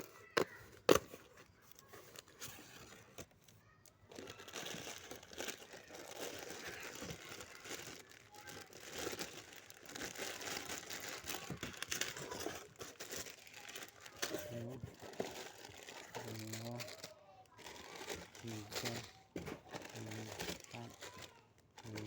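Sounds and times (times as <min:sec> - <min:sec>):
noodle packaging crinkling: 0:00.0 - 0:22.0.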